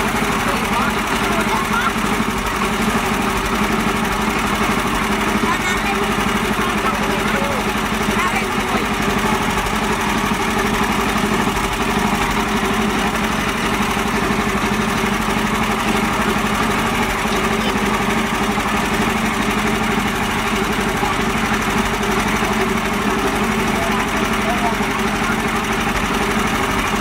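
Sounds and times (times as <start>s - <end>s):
mini tractor engine running: 0.0s - 27.0s.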